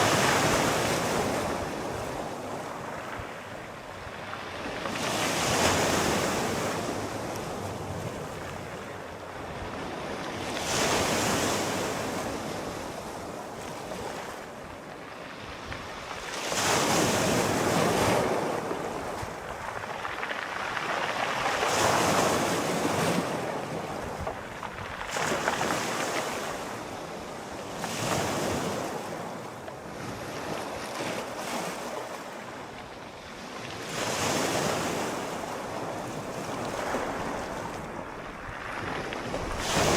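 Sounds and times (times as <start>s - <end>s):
sea waves breaking ashore: 0.0s - 39.9s.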